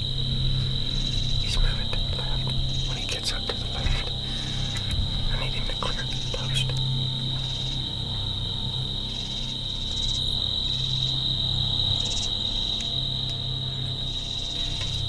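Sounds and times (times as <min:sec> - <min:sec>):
crickets trilling: 0:00.0 - 0:15.0
low hum: 0:00.0 - 0:15.0.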